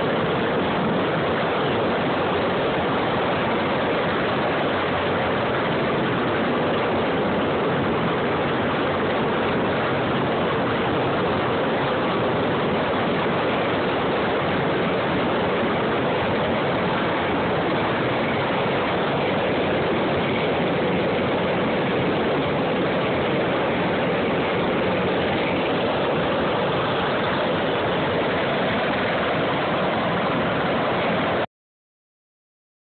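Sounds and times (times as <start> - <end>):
helicopter engines and rotors roaring: 0.0 - 31.4.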